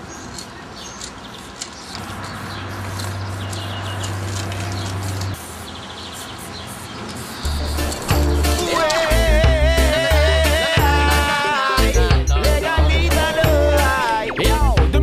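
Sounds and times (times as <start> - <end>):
birds chirping: 0.0 - 14.6
spray-paint cans hissing: 0.3 - 14.2.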